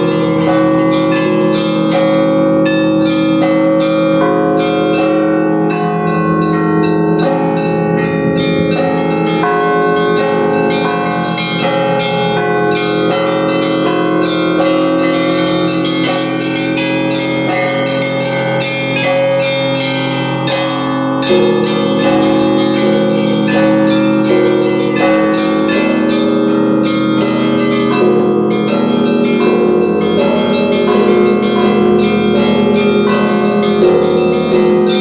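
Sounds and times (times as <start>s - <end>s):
church bells pealing: 0.0s - 35.0s
deeper bells ringing: 0.0s - 35.0s.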